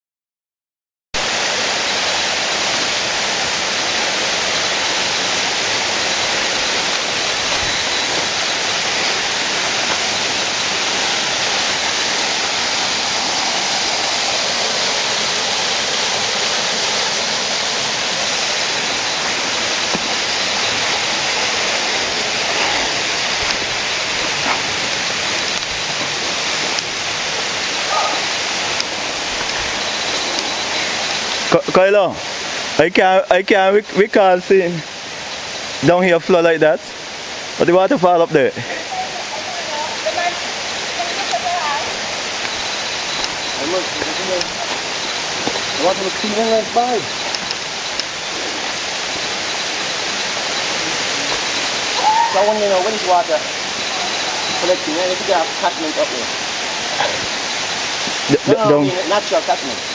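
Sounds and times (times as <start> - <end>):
waterfall and stream rushing: 1.2 - 59.9.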